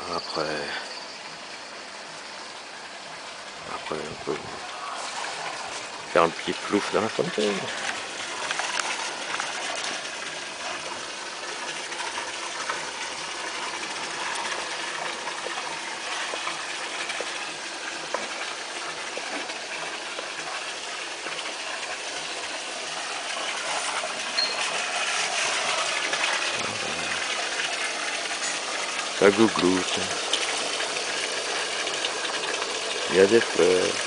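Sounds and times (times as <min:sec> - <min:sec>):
water splashing into fountain basin: 0:00.0 - 0:34.0.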